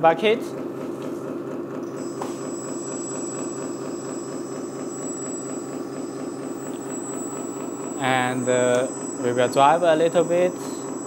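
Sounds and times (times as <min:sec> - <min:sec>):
toy truck hydraulic pump drone: 0:01.8 - 0:11.0
thin high whine: 0:01.9 - 0:11.0.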